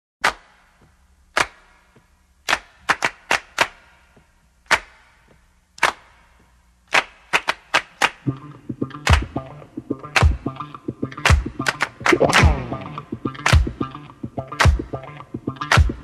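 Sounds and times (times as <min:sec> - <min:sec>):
faint music: 0:00.6 - 0:16.0.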